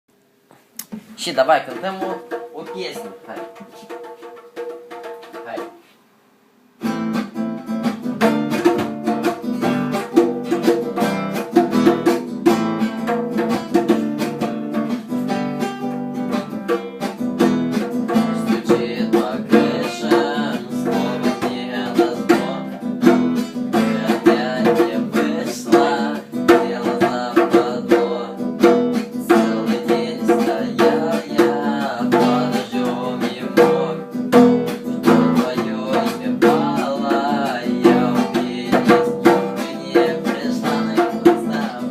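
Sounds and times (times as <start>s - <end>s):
acoustic guitar strumming: 0.8s - 5.9s, 6.8s - 41.9s.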